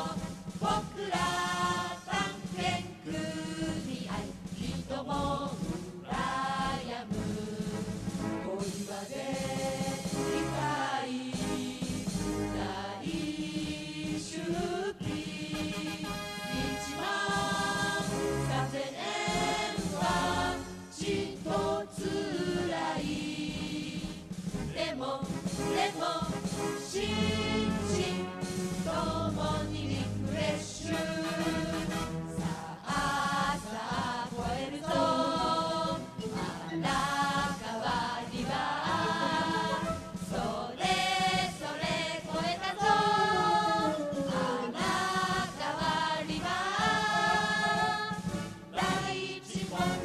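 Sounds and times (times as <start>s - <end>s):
choir-like singing voices: 0.0s - 50.0s.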